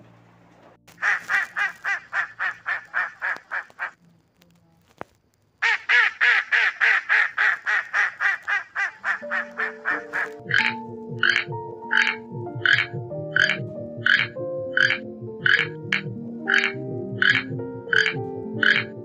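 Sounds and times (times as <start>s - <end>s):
ducks quacking: 0.9s - 4.0s, 5.6s - 19.0s.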